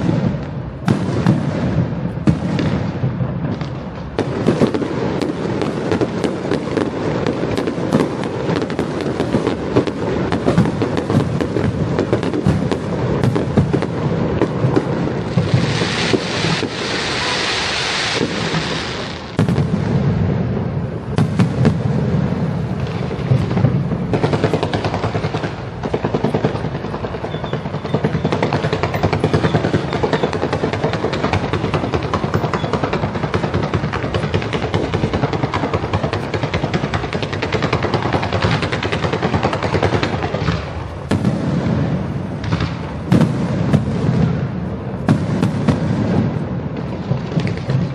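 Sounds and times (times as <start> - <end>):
fireworks bangs and crackles: 0.0 - 47.9
loud fireworks hissing: 0.0 - 47.9.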